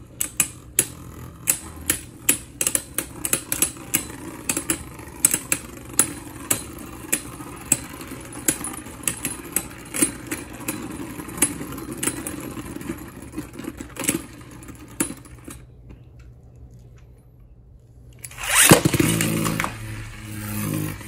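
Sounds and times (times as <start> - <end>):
spinning tops whirring: 0.0 - 15.0, 18.3 - 21.0.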